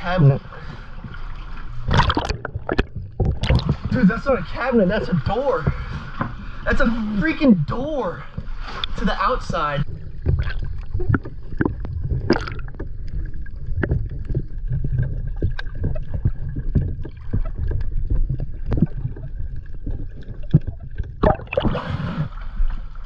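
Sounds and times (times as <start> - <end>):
low underwater rumble: 0.0 - 23.0
bubbling rush: 1.7 - 22.8.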